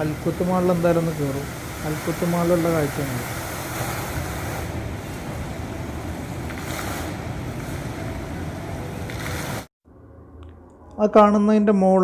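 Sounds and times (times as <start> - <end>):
traffic: 0.0 - 9.7
wind: 0.0 - 9.7.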